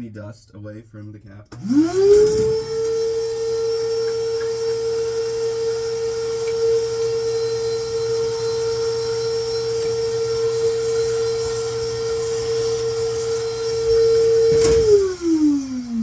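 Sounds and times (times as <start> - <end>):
vacuum cleaner whining: 1.5 - 16.0.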